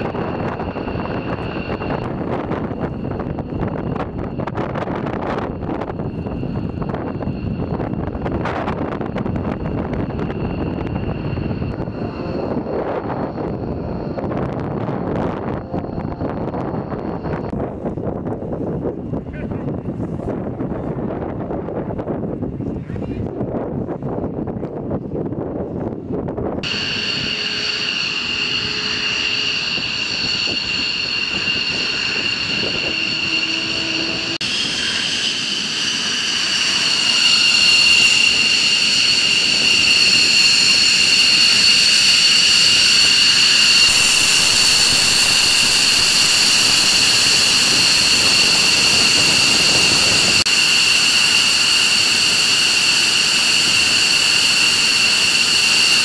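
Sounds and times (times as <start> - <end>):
jet engine rushing noise: 0.0 - 18.2, 26.6 - 56.0
jet engine turbine whine: 0.0 - 22.4, 25.2 - 56.0.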